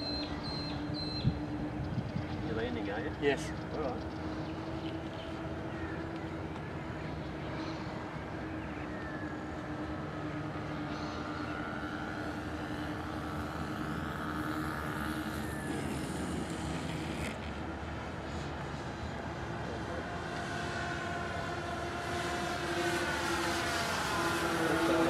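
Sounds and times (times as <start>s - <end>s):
high-pitched whine: 0.0s - 25.0s
model aircraft propellers droning: 0.0s - 25.0s.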